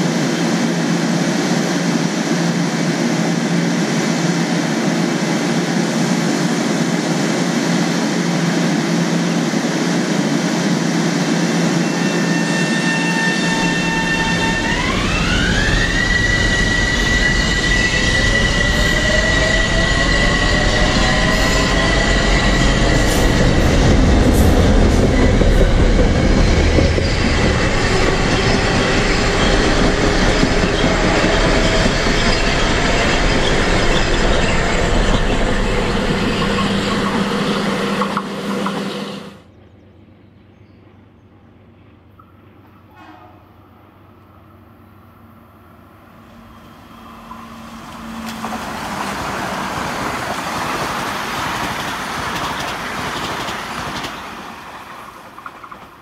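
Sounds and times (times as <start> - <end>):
low train rumble: 0.0 - 56.0
train hum and hiss: 0.0 - 56.0.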